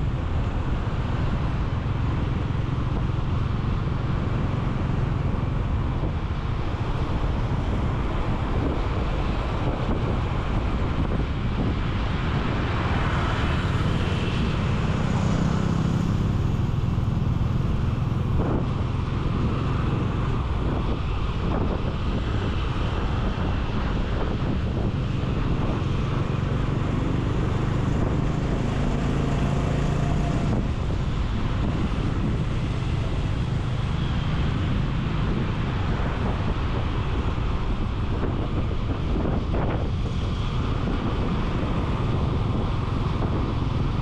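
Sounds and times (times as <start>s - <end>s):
low engine hum: 0.0s - 44.0s
wind rushing over microphone: 0.0s - 44.0s.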